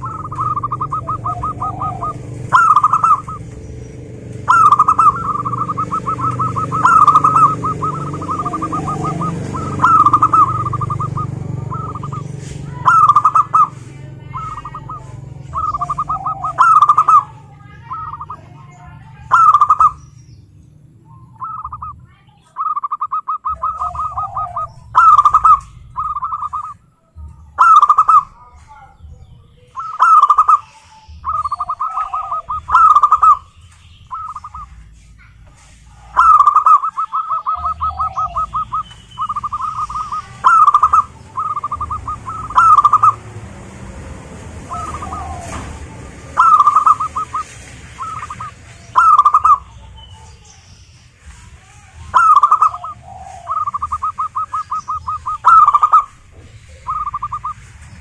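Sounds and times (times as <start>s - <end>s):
dove cooing: 0.0s - 20.1s, 21.0s - 50.6s, 52.0s - 58.0s.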